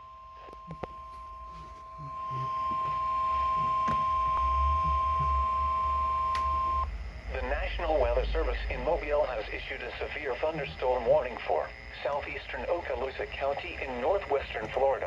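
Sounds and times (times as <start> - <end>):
low hum: 0.0 - 14.0
steady high alarm tone: 0.0 - 15.0.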